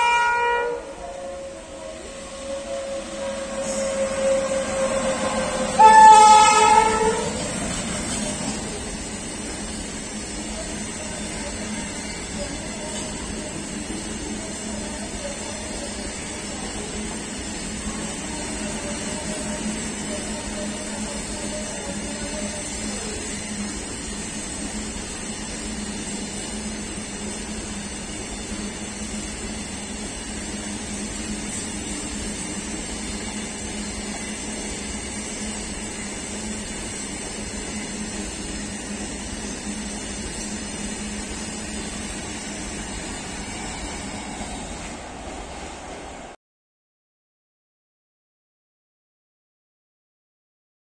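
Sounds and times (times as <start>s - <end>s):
freight train wheels on rails: 0.0s - 46.4s.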